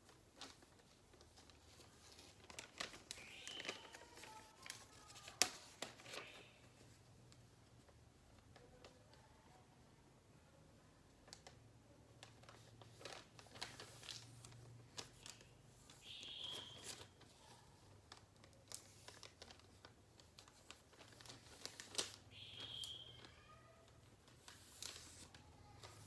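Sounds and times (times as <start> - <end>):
paper rustling and crinkling: 0.0 - 9.2, 11.2 - 26.0.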